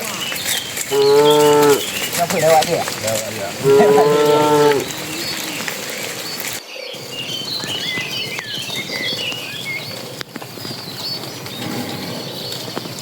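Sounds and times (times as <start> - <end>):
small birds chirping: 0.0 - 13.0
steady outdoor hiss: 0.0 - 13.0.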